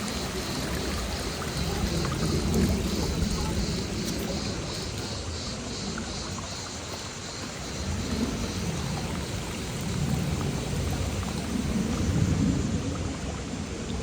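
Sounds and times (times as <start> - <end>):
waterfall rushing: 0.0 - 6.3, 7.2 - 13.6.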